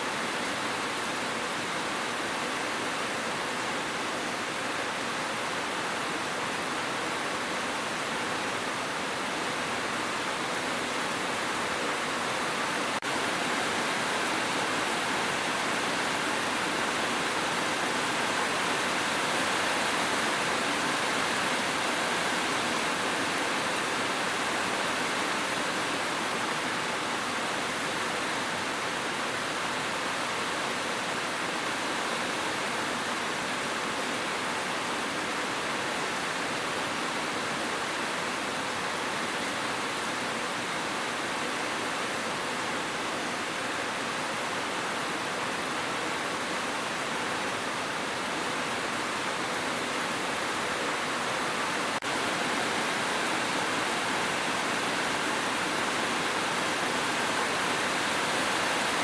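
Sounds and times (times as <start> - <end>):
dense rain hissing: 0.0 - 59.0.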